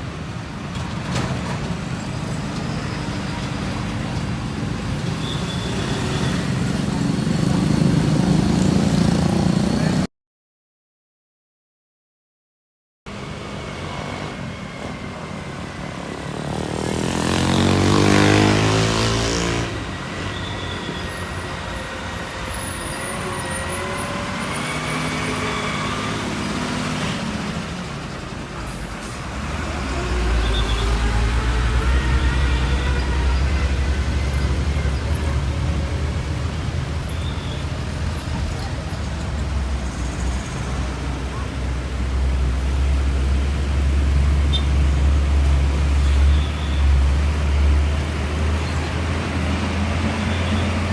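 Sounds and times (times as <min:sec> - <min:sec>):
heavy trucks passing: 0:00.0 - 0:10.1, 0:13.1 - 0:50.9.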